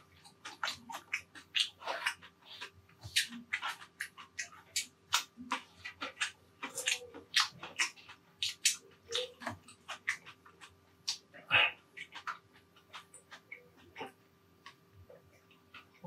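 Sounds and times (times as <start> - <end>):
mouth chewing food: 0.0 - 16.0.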